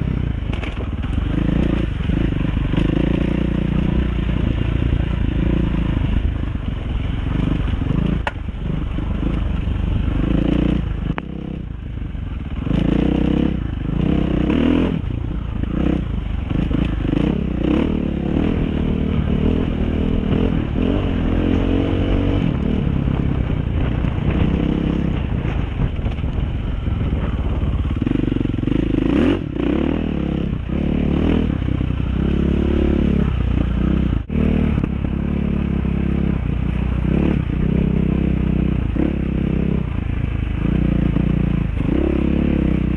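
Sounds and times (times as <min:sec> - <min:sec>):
dirt bike engine revving: 0:00.0 - 0:26.2, 0:26.8 - 0:42.9.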